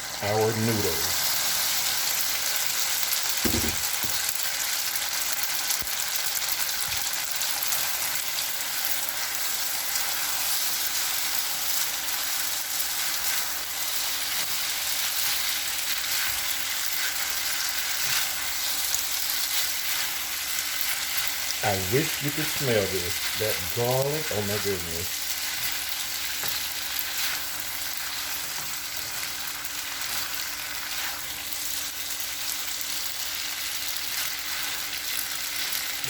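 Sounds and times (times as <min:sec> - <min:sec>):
sauce sizzling in a hot pan: 0:00.0 - 0:36.0.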